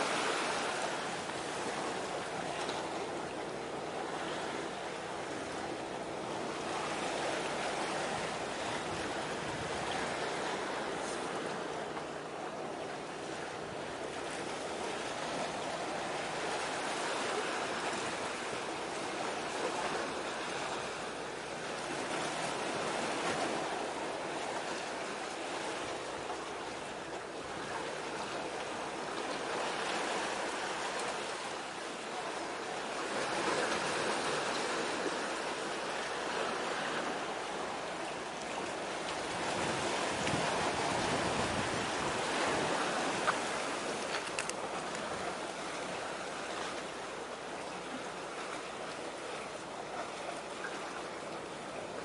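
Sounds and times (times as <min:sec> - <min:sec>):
waves washing on shore: 0:00.0 - 0:52.0.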